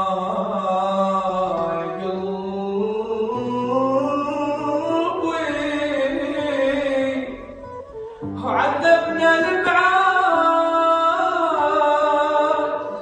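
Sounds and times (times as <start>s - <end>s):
person singing gliding notes: 0.7s - 13.0s.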